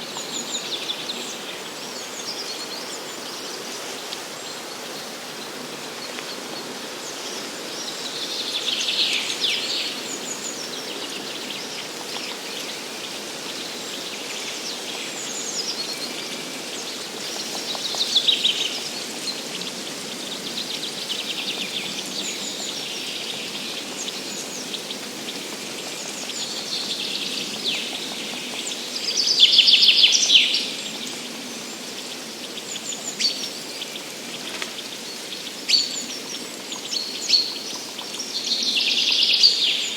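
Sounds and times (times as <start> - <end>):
forest ambience hiss: 0.0 - 39.9
songbirds singing: 0.0 - 39.9.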